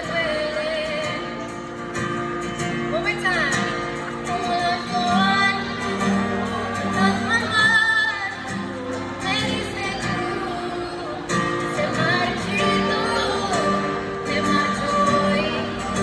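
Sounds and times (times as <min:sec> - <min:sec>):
woman singing: 0:00.0 - 0:01.6, 0:04.2 - 0:16.0
acoustic guitar: 0:00.0 - 0:16.0.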